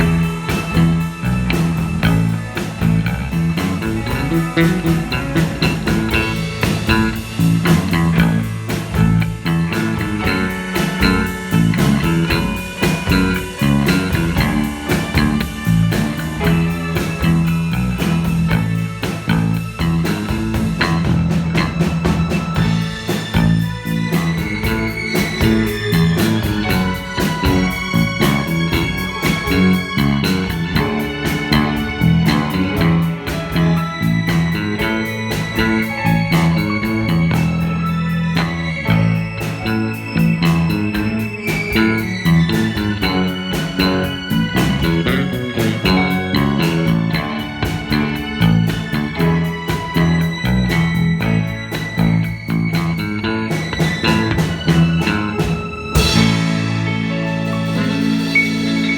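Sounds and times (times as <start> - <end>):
rock band playing: 0.0 - 58.9.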